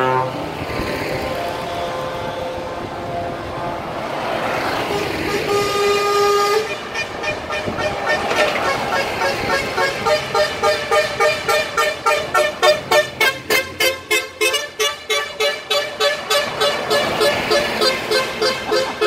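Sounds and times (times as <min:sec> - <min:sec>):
truck air horns blasting: 0:00.0 - 0:19.0.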